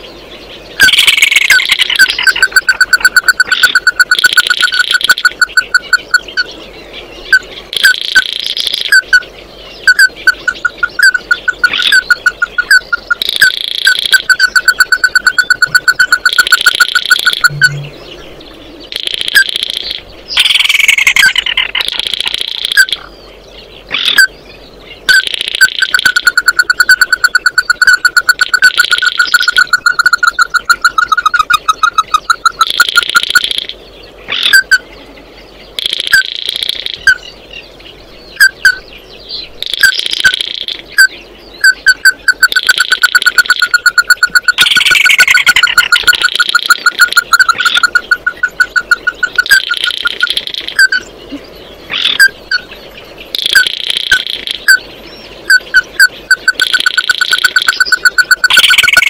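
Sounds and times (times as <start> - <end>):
bird clipped calls: 0.8 - 6.6, 7.2 - 23.1, 23.8 - 24.4, 25.0 - 34.9, 35.7 - 59.0.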